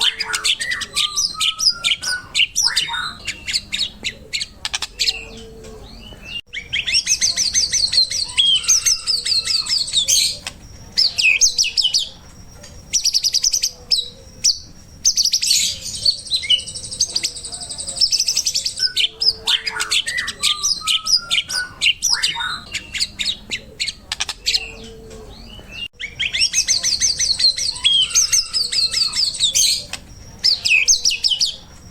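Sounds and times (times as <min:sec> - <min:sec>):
songbird trilling and whistling: 0:00.0 - 0:31.9.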